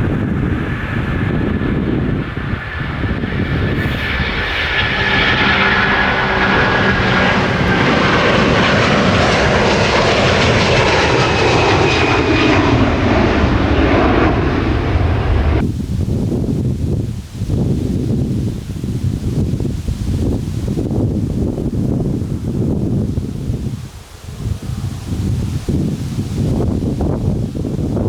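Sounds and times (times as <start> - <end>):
jet engines passing close by: 0.0 - 28.0.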